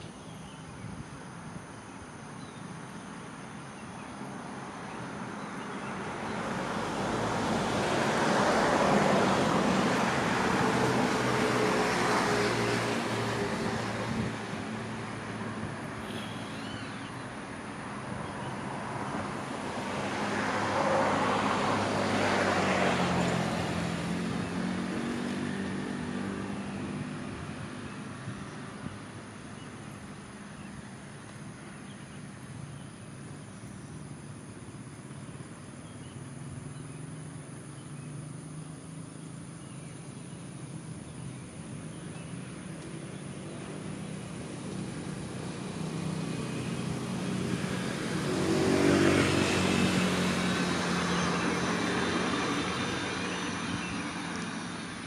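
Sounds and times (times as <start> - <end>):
traffic hum: 0.0 - 55.0
vehicles passing: 0.0 - 55.0.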